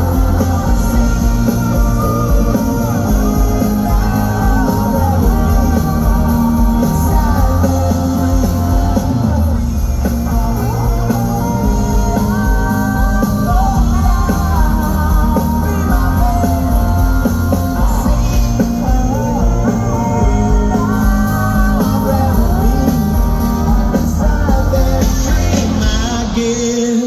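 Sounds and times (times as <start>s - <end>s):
live rock band playing: 0.0s - 27.0s
man singing: 0.0s - 27.0s.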